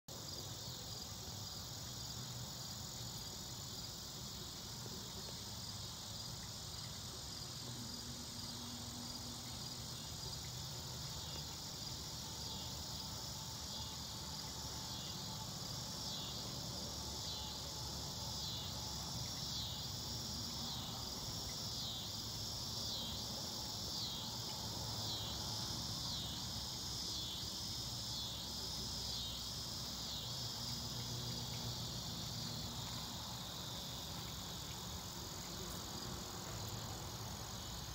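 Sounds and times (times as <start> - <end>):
insects chirping high trill: 0.1 - 37.9
pulsing insect call: 0.2 - 37.9.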